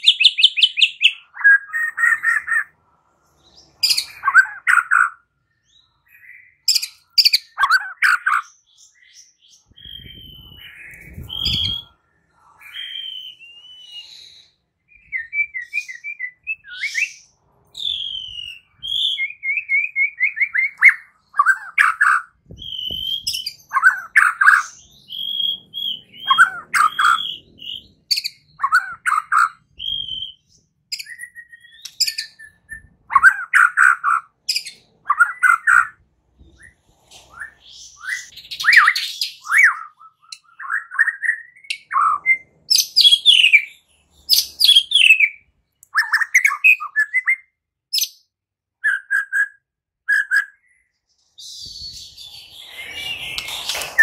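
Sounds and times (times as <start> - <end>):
bird singing whistled notes and trills: 0.0 - 54.0.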